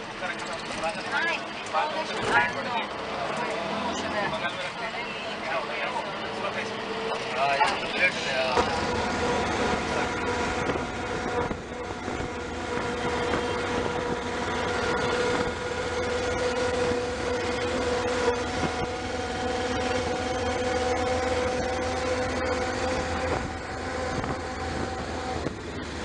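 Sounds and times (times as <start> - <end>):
train rumble from on board: 0.0 - 26.0
steady hums: 4.1 - 26.0.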